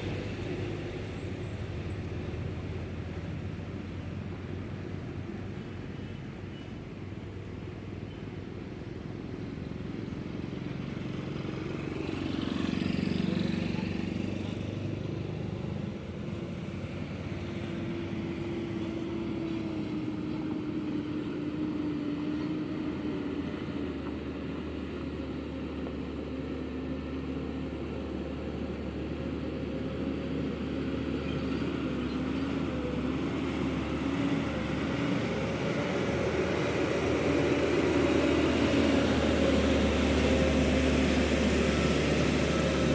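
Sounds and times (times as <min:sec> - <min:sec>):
heavy truck engine running: 0:00.0 - 0:42.9.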